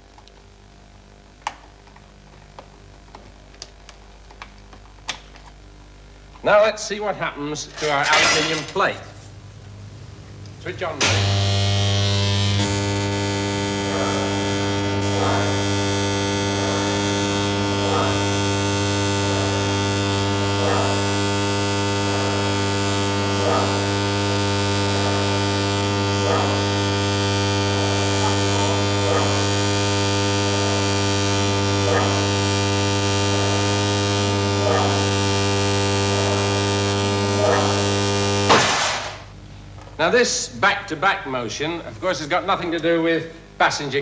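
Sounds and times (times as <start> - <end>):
induction motor coils humming: 0.0 - 44.0.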